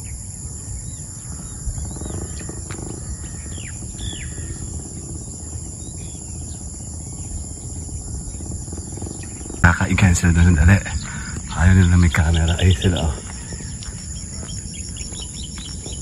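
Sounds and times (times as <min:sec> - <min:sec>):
bird chirps: 0:00.0 - 0:16.0
insects droning: 0:00.0 - 0:16.0.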